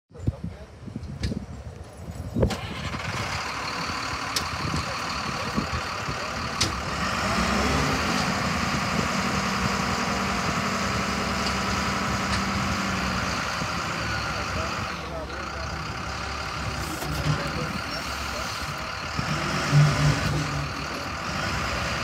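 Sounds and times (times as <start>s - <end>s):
diesel engine running: 2.4s - 22.0s.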